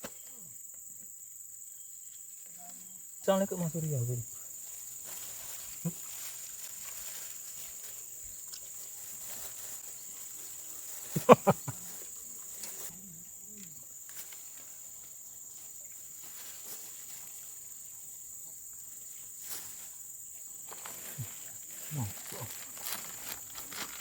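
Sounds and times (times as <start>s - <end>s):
high-pitched insect drone: 0.2s - 24.0s.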